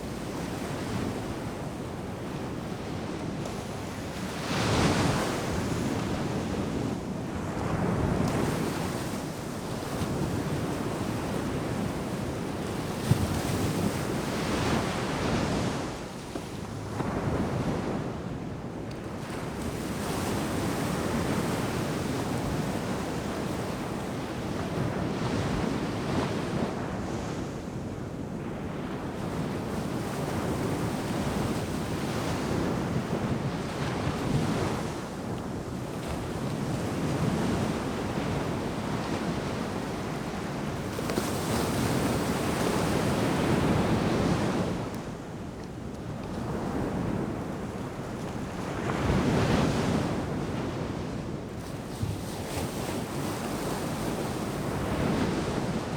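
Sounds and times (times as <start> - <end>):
waves breaking on a beach: 0.0 - 55.9
wind noise on microphone: 0.0 - 55.9.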